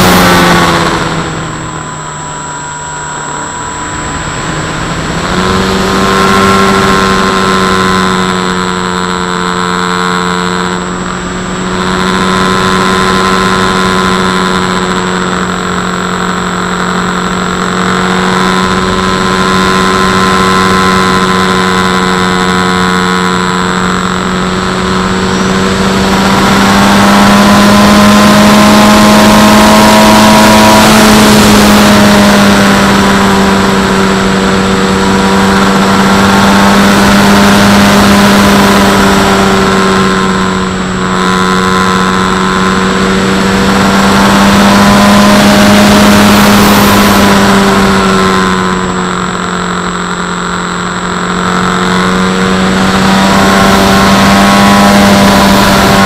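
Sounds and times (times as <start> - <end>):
electric motor and propeller whining: 0.0 - 56.0
rush of wind: 0.0 - 56.0.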